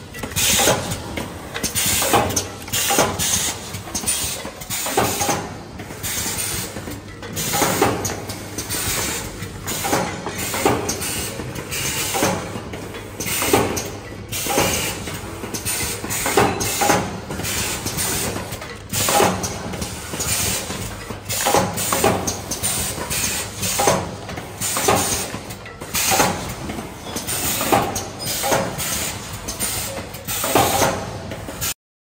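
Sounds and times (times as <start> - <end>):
machine hissing air and clacking: 0.0 - 31.8.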